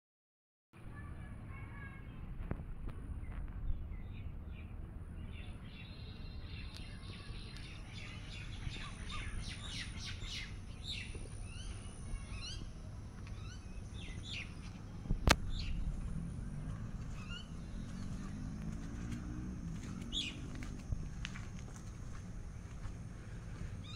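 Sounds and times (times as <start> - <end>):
low background rumble: 0.8 - 23.9
small birds chirping: 0.9 - 23.9.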